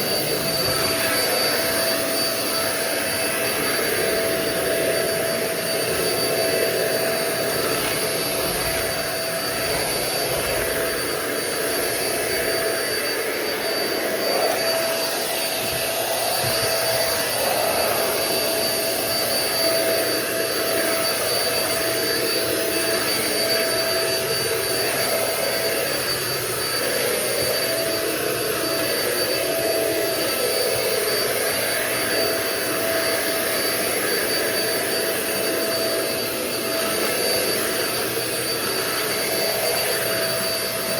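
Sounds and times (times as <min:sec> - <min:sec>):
stick vacuum running: 0:00.0 - 0:40.9.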